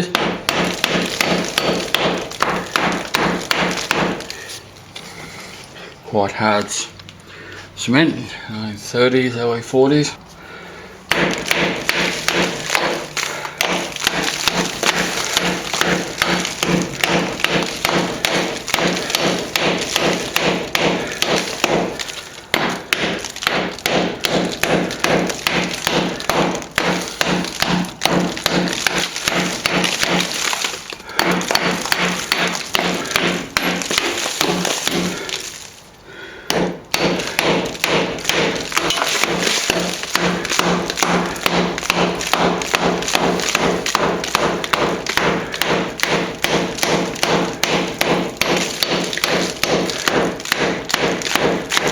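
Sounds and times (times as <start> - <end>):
hammer and chisel chipping cement: 0.0 - 4.7, 11.1 - 51.9.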